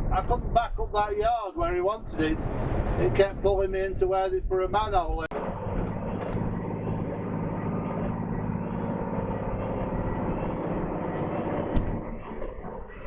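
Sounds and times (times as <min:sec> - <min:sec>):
diesel lorry engine running: 0:02.0 - 0:13.0.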